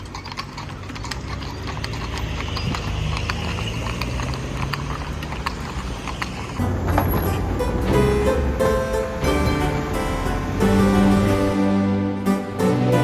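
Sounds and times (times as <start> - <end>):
horse hooves clopping on pavement: 0.0 - 11.6
low traffic rumble: 0.0 - 13.0.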